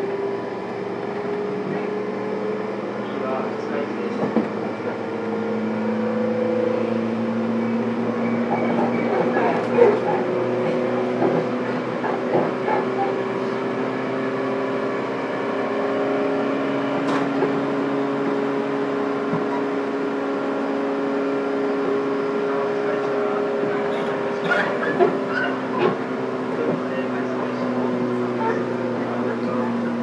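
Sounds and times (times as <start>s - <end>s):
train rumbling: 0.0s - 6.1s, 6.9s - 14.1s, 16.8s - 30.0s.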